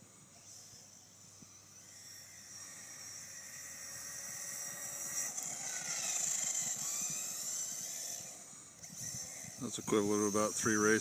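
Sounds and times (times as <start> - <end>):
rc car motor whining past: 0.0 - 11.0.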